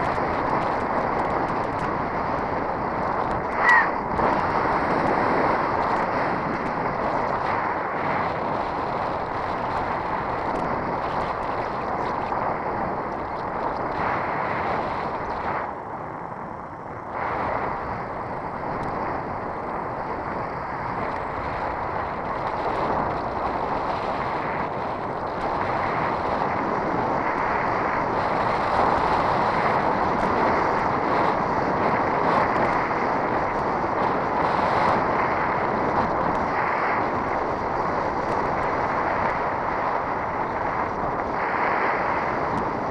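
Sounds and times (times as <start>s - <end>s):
bicycle tyre noise: 0.0s - 42.9s
wind rush: 0.0s - 42.9s.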